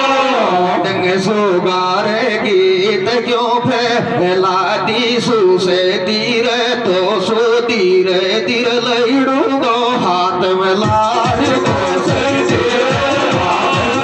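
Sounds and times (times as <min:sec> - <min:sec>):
folk music through loudspeakers: 0:00.0 - 0:14.0
man singing: 0:00.0 - 0:14.0.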